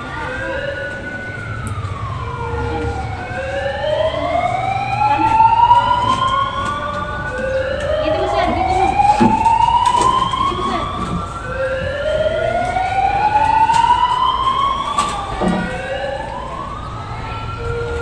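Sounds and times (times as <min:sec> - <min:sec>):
wailing sirens: 0:00.0 - 0:18.0.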